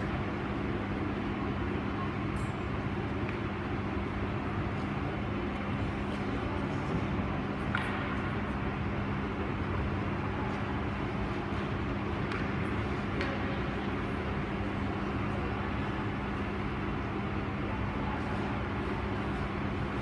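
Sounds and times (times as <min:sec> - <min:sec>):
ice rink crowd hum: 0:00.0 - 0:20.0.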